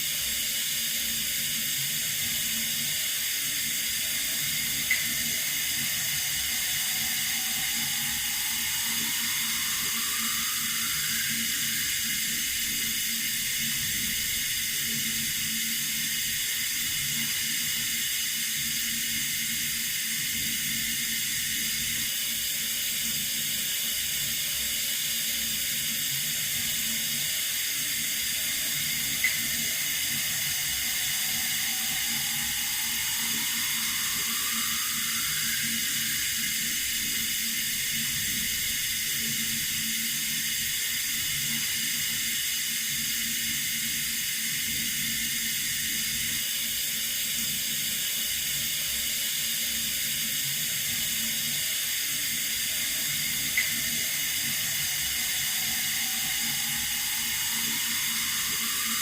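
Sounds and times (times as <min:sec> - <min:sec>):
water running from a tap: 0:00.0 - 0:59.0.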